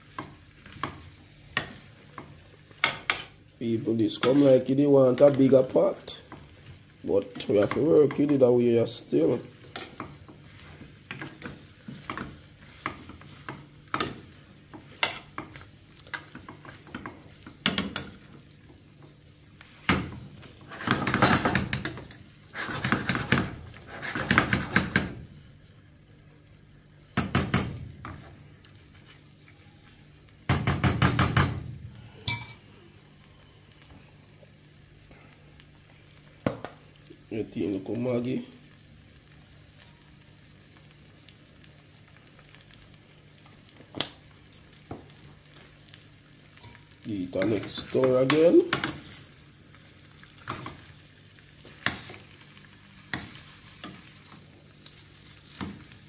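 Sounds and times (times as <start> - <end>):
faint frying sizzle: 0.0 - 56.0.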